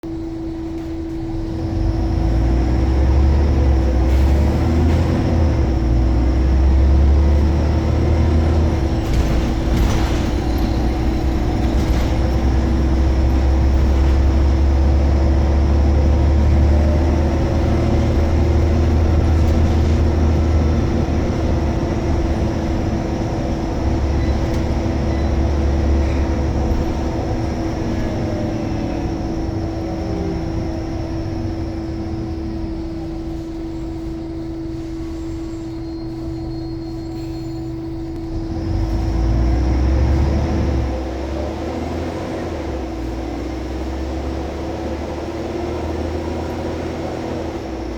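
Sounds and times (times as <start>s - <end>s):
steady whine: 0.0s - 41.6s
bus engine drone: 0.0s - 47.9s.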